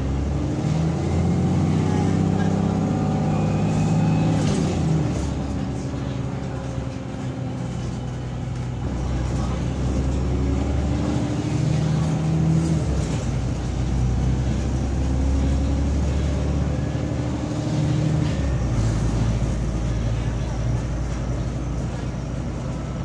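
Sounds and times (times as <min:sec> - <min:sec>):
bus engine pulling hard: 0:00.0 - 0:23.0.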